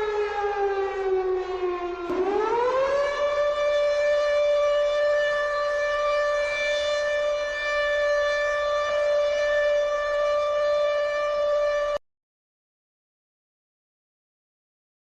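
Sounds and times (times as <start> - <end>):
air-raid siren wailing: 0.0 - 12.0.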